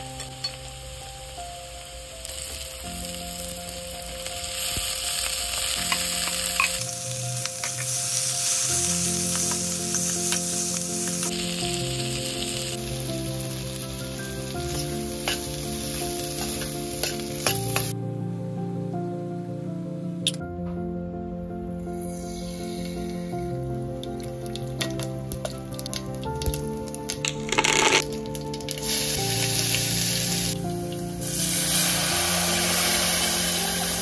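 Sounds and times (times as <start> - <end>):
food sizzling in hot oil: 0.0 - 17.9, 22.0 - 34.0
soft piano music: 0.0 - 34.0.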